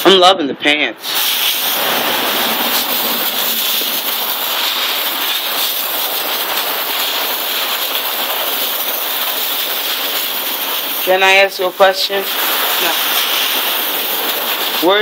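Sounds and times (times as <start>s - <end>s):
hose spraying water onto pavement: 1.0s - 15.0s.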